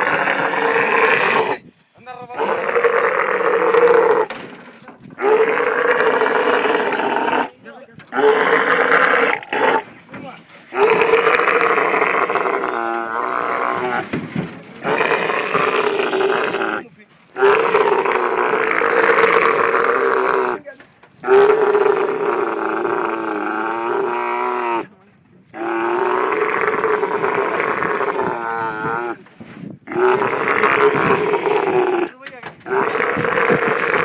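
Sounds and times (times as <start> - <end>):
camel bellowing: 0.0 - 1.6, 2.4 - 4.5, 5.1 - 10.0, 10.7 - 20.6, 21.2 - 24.9, 25.5 - 34.0.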